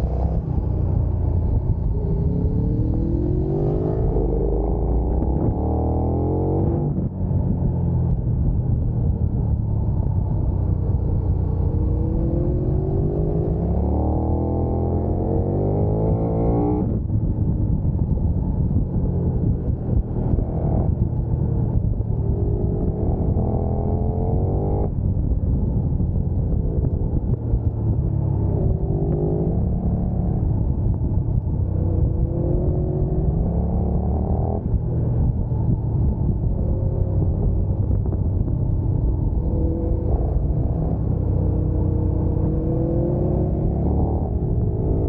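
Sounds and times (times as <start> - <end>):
low rumble: 0.0 - 45.0
motorcycle engine accelerating: 0.0 - 45.0.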